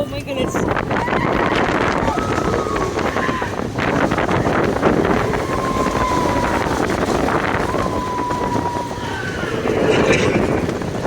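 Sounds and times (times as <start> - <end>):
roller coaster rattling on track: 0.0 - 11.0
wind rushing over microphone: 0.0 - 11.0.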